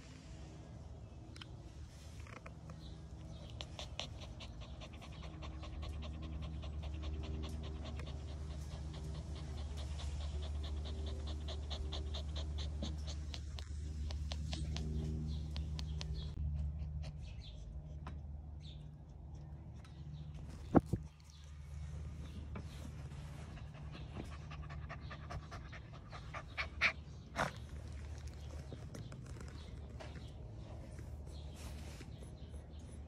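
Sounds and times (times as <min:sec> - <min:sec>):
low steady hum: 0:00.0 - 0:33.0
puppy panting: 0:03.1 - 0:21.5, 0:22.2 - 0:33.0.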